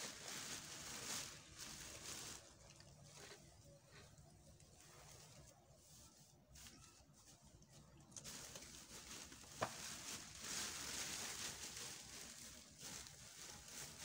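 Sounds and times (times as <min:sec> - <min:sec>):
coconut fibre rustling: 0:00.0 - 0:14.0
plastic bag rustling: 0:00.0 - 0:14.0.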